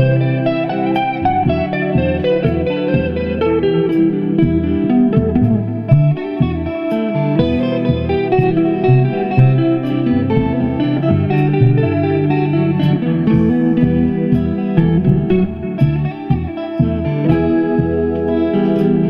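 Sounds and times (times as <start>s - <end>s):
electric guitar solo: 0.0s - 19.0s
looped chord backing: 0.0s - 19.0s
moving bass line: 0.0s - 19.0s.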